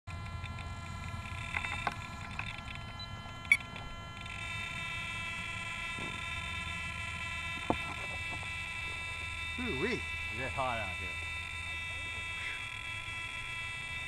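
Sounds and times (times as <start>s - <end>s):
high-pitched electronic whine: 0.1s - 14.0s.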